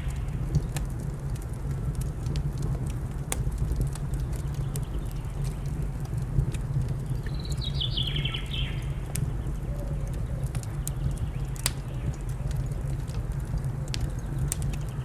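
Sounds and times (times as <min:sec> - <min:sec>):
wood fire crackling: 0:00.1 - 0:15.0.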